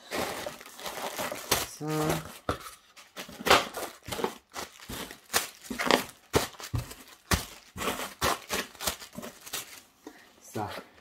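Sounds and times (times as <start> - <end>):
packing material crinkling: 0.0 - 10.0.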